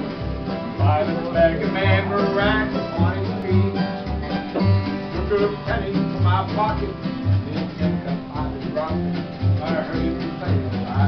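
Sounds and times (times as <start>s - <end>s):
plucked double bass: 0.0s - 11.0s
plucked strings melody: 0.0s - 11.0s.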